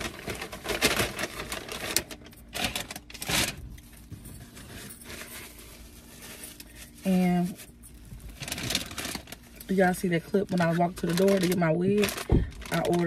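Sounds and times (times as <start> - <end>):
cardboard and paper rustling: 0.0 - 13.0.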